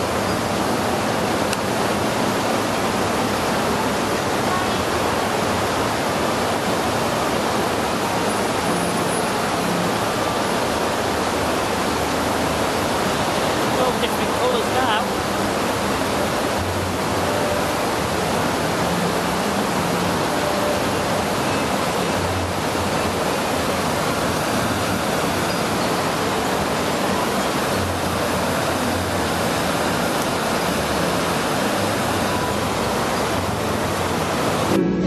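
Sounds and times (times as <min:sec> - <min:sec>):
fountain jets splashing into water: 0:00.0 - 0:34.8.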